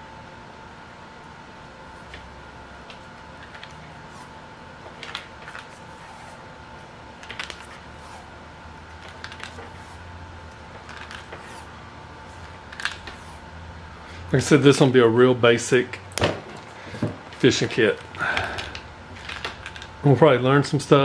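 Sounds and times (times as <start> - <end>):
faint hum: 0.0 - 21.0
tape crackling: 1.2 - 14.8, 16.1 - 20.0.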